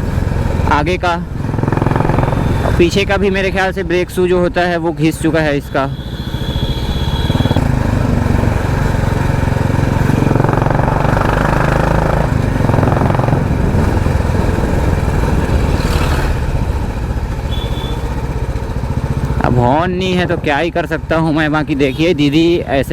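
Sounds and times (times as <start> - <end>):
motorcycle engine and exhaust running: 0.0 - 22.9.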